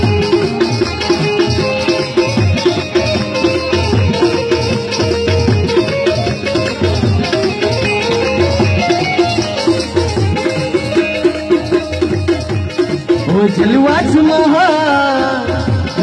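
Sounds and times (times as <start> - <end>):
hand drum beat: 0.0 - 16.0
harmonium chords: 0.0 - 16.0.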